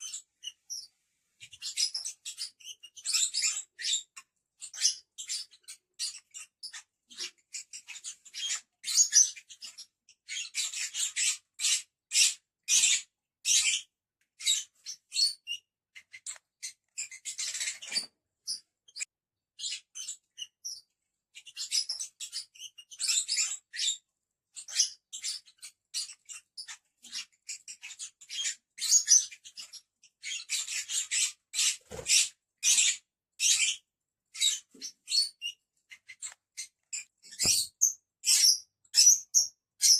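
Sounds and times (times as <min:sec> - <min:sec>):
lovebirds chirping and squeaking: 0:00.0 - 0:39.9.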